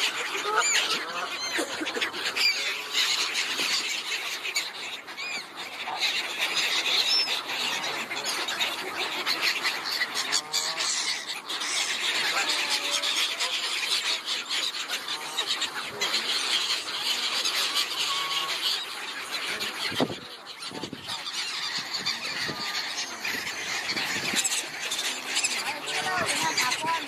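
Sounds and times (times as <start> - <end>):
waterbirds calling: 0.0 - 27.0.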